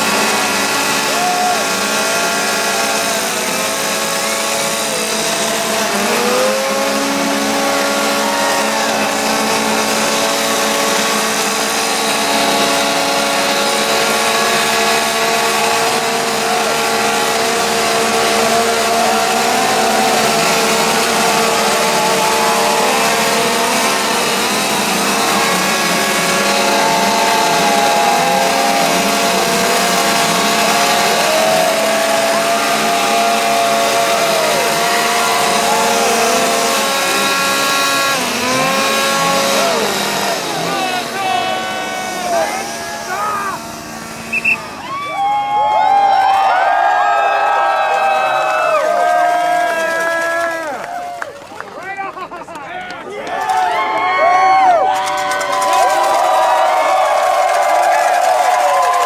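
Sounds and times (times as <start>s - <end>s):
engines revving: 0.0s - 51.9s, 54.5s - 59.0s.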